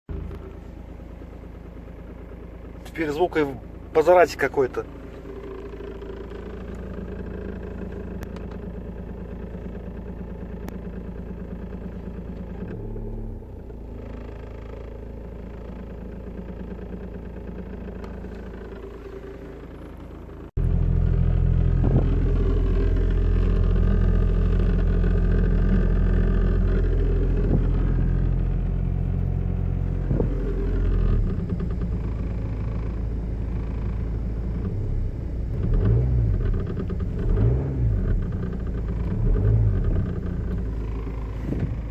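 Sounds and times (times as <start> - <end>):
car engine idling: 0.1 - 41.9
engine knock: 0.1 - 41.9.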